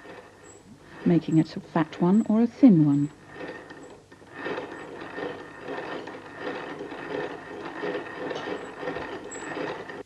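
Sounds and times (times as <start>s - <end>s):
hand-cranked lathe clattering: 0.0s - 10.0s.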